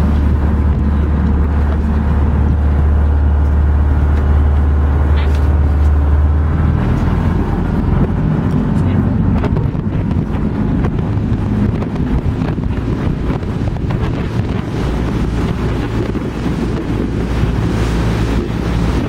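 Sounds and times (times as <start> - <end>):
boat engine rumble: 0.0 - 19.0
water rushing past hull: 0.0 - 19.0
wind buffeting microphone: 0.0 - 19.0.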